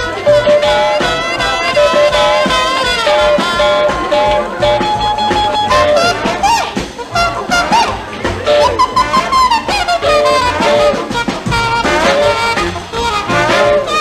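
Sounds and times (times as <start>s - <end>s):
horns sliding notes: 0.0s - 14.0s
swing jazz music: 0.0s - 14.0s.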